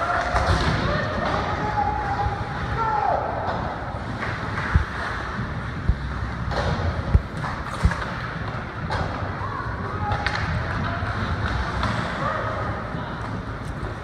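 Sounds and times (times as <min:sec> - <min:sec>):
rink background noise: 0:00.0 - 0:14.0.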